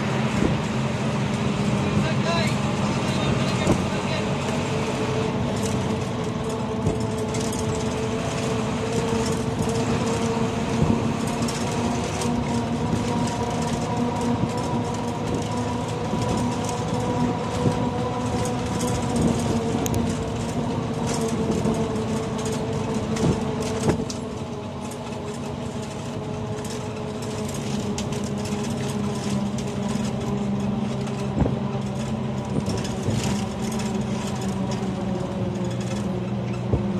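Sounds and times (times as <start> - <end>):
road rumble: 0.0 - 36.9
vehicle drone with held tones: 0.0 - 36.9.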